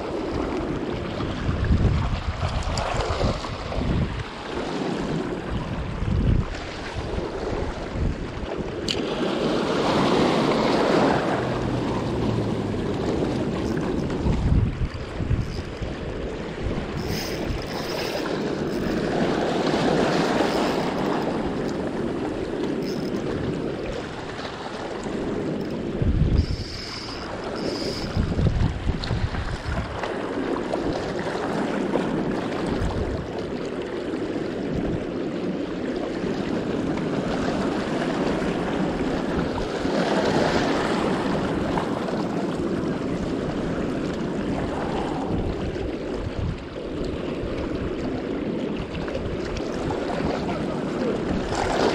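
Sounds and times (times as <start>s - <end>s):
small waves washing on rocks: 0.0s - 51.9s
wind blowing across microphone: 0.0s - 51.9s.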